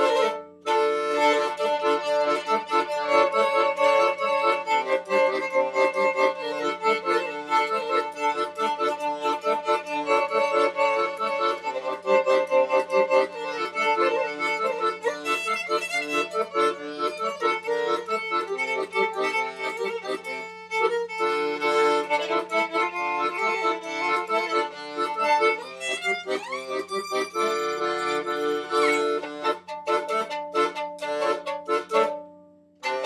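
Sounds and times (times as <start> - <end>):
accordion-like melody: 0.0 - 33.0.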